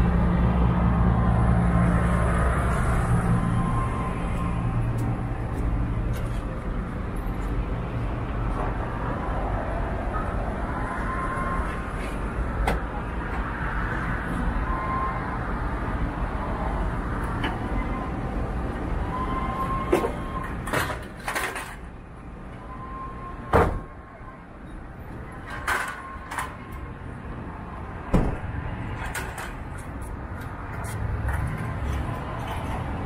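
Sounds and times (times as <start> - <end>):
street traffic rumbling: 0.0 - 33.0.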